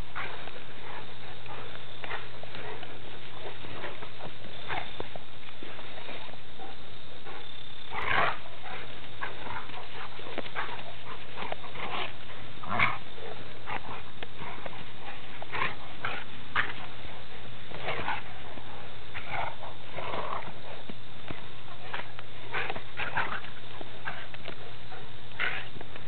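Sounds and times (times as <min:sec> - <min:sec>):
dogs play growling and grunting: 0:00.0 - 0:26.0.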